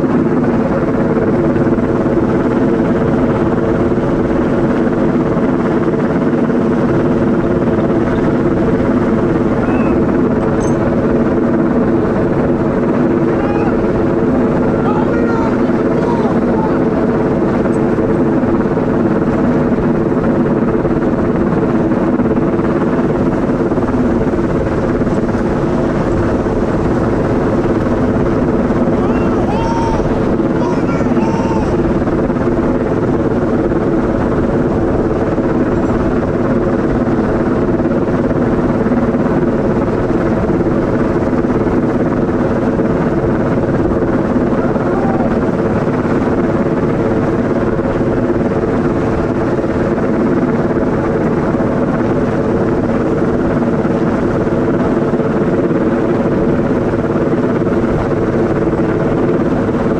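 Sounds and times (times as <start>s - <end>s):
helicopter hovering overhead: 0.0s - 59.9s.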